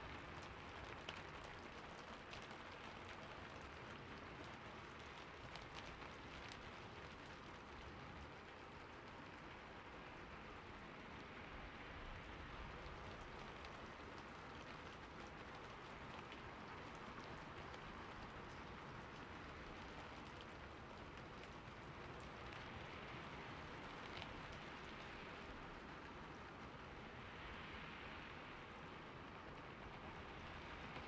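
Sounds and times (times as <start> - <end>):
rain on a roof: 0.0 - 31.0.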